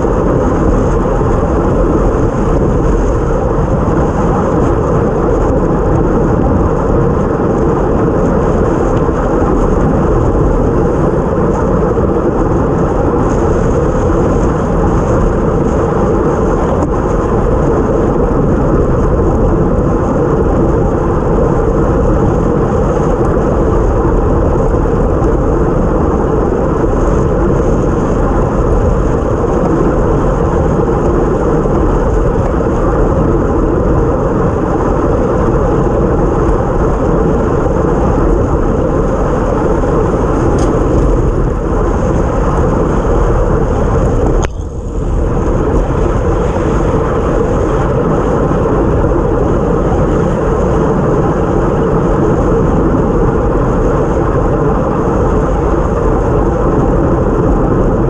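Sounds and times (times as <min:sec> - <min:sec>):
tyre noise on wet road: 0:00.0 - 0:58.0
wind buffeting microphone: 0:00.0 - 0:58.0.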